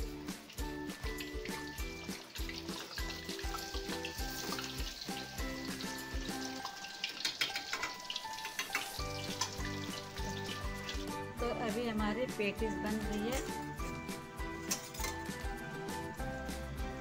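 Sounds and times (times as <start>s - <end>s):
food sizzling in hot oil: 0.0s - 16.7s
background music with steady beat: 0.0s - 17.0s.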